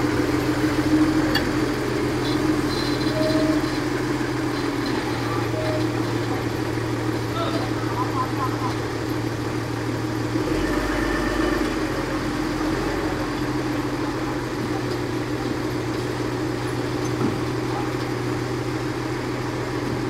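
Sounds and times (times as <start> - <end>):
forklift diesel engine running: 0.0 - 20.0.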